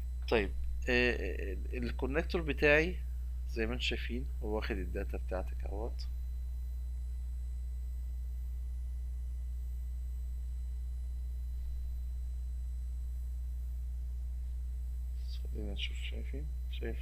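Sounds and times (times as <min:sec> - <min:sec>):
faint thin steady tones: 0:00.0 - 0:17.0
low electrical hum: 0:00.0 - 0:17.0.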